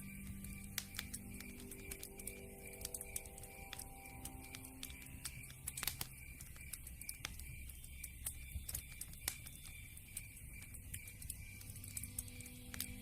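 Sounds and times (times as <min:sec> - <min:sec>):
campfire crackling: 0:00.0 - 0:13.0
faint high chirp: 0:00.0 - 0:13.0.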